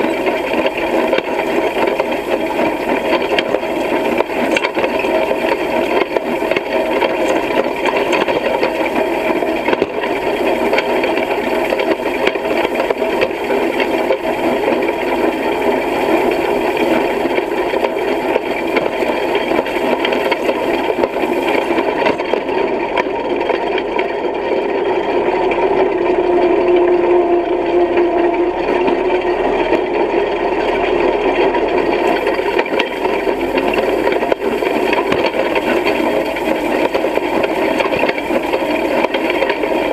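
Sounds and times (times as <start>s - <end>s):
hay rake clattering and rattling: 0.0s - 26.9s, 28.6s - 39.9s.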